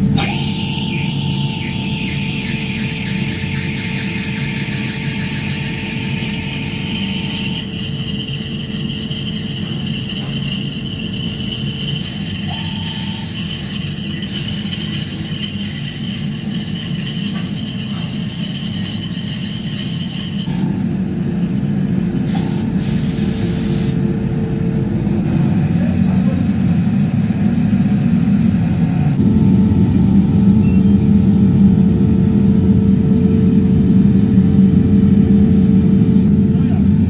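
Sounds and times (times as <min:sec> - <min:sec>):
low drone of heavy machinery: 0:00.0 - 0:37.0.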